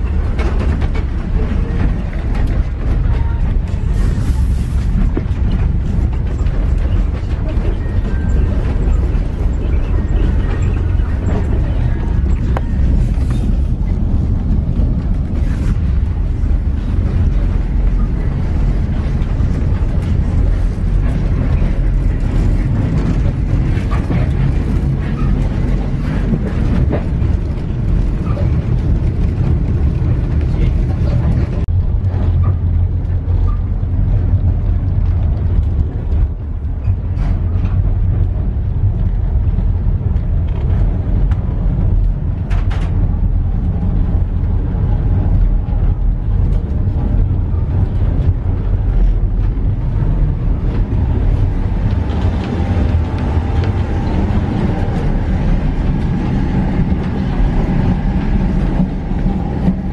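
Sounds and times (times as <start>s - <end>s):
rattles and clicks: 0.0s - 59.9s
train rumbling: 0.0s - 59.9s.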